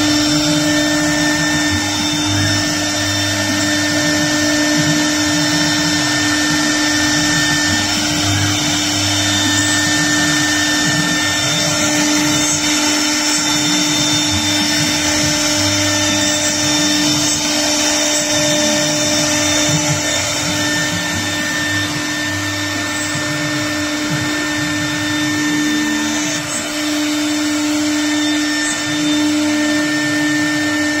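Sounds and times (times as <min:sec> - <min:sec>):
bit rasping through panel: 0:00.0 - 0:31.0
router spindle whine: 0:00.0 - 0:31.0.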